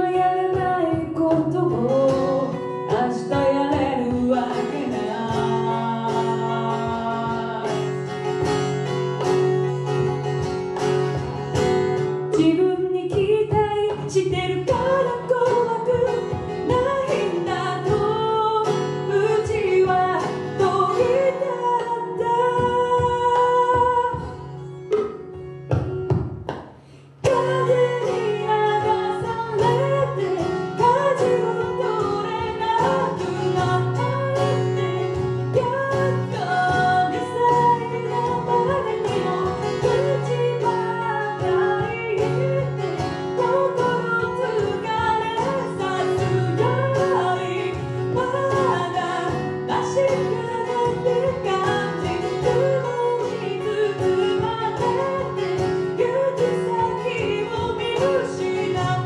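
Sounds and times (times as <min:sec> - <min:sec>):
woman singing: 0:00.0 - 0:25.1, 0:27.2 - 0:59.0
acoustic guitar: 0:00.0 - 0:59.0.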